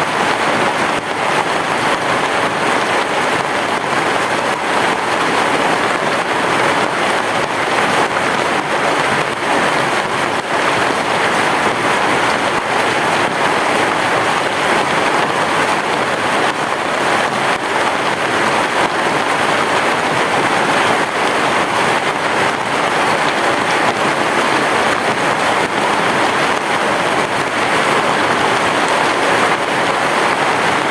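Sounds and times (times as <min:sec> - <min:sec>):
heavy rain on a roof: 0:00.0 - 0:30.9.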